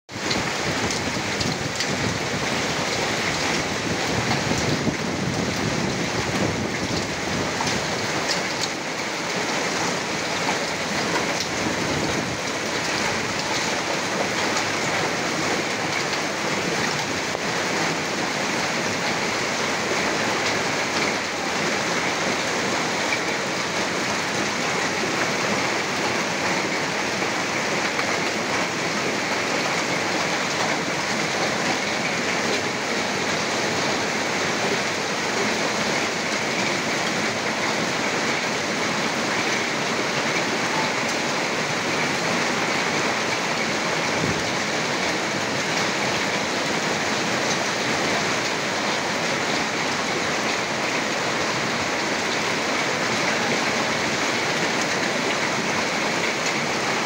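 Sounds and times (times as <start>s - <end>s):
heavy rain on street and rooftops: 0.1s - 57.0s.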